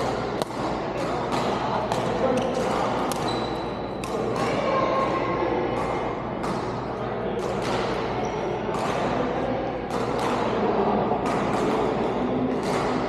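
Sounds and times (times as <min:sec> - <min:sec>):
badminton racket hits echoing: 0:00.0 - 0:13.0
murmur of voices: 0:00.0 - 0:13.0.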